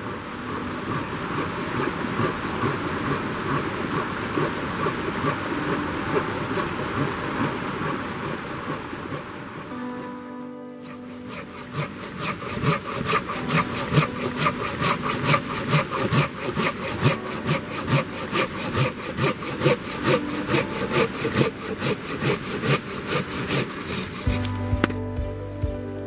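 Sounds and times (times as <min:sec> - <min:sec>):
hand saw cutting log: 0:00.0 - 0:25.0.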